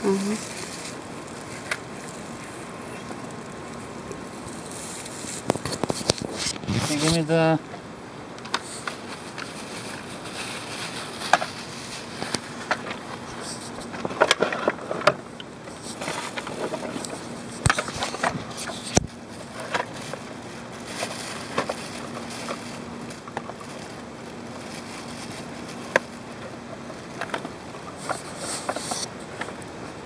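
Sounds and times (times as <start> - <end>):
pond liner rustling: 0.0 - 7.6, 8.4 - 30.0.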